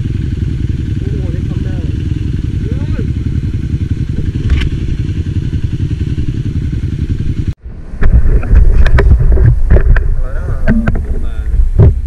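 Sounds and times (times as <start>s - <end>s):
motorcycle engine: 0.0s - 12.0s
wind rumble: 0.0s - 12.0s.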